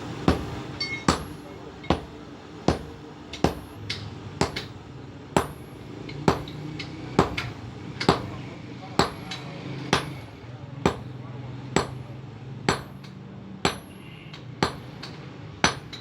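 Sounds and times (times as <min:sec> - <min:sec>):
hammer striking steel on anvil: 0:00.2 - 0:04.8, 0:05.4 - 0:11.2, 0:11.8 - 0:12.1, 0:12.7 - 0:16.0.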